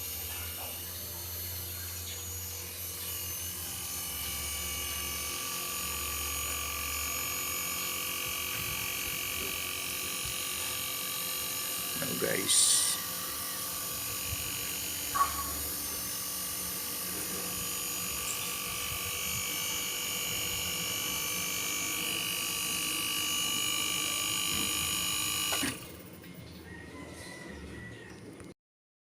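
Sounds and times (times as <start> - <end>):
air conditioner compressor humming: 0.0 - 27.0.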